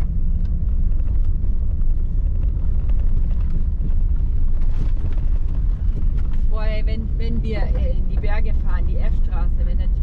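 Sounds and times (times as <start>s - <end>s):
car driving on gravel: 0.0s - 10.0s.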